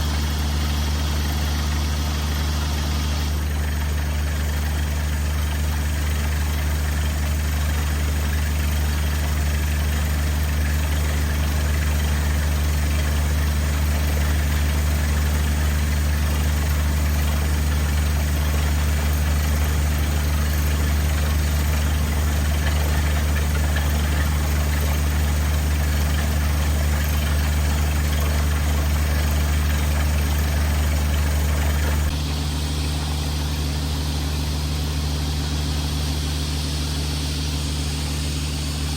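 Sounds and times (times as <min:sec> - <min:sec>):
drilling rig engine running: 0:00.0 - 0:38.9.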